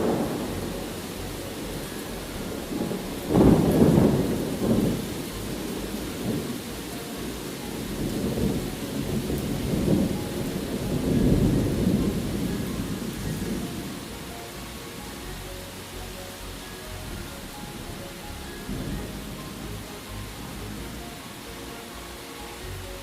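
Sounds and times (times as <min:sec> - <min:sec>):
thunder clap and rumble: 0:00.0 - 0:15.4, 0:16.9 - 0:21.0
steady rain: 0:00.0 - 0:23.0.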